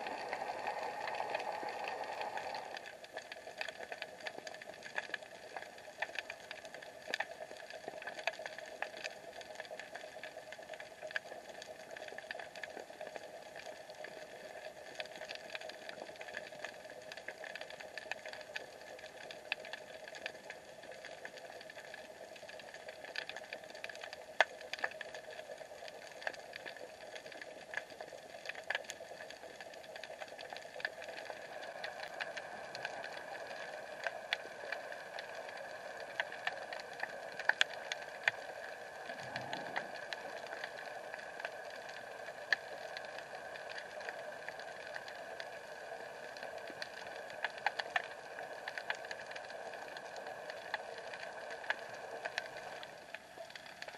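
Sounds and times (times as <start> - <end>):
muffled underwater hum: 0.0 - 53.9
sharp clicks and crackles: 0.0 - 53.9.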